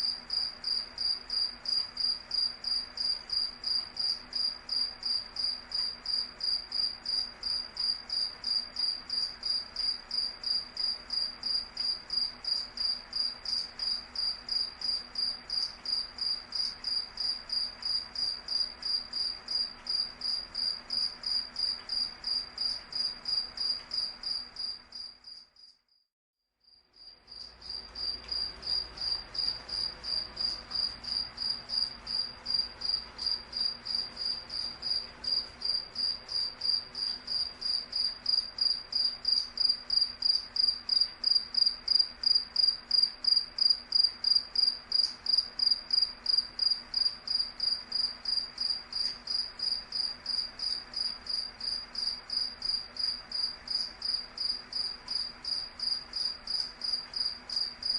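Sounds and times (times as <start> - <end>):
cricket chirping: 0.0 - 26.0, 26.6 - 57.9.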